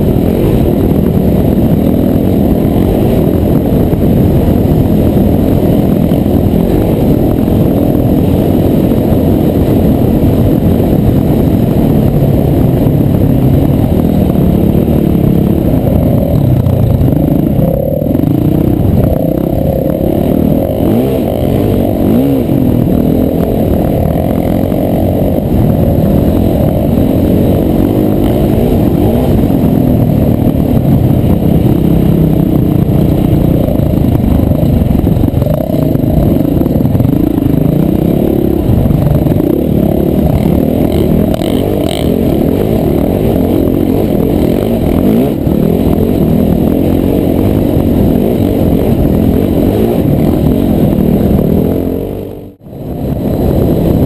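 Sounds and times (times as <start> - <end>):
dirt bike engine revving: 0.0 - 54.0
wind rumbling on microphone: 0.0 - 54.0.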